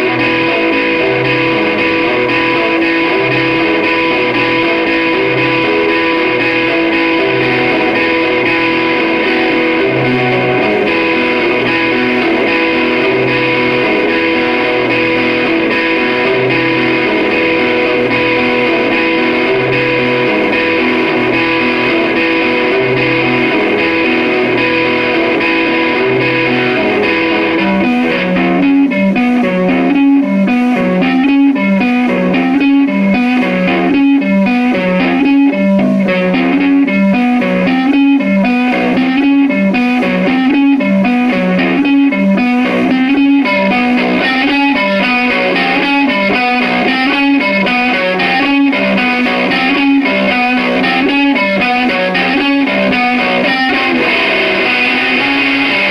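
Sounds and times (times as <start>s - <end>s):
electric guitar playing: 0.0s - 55.9s.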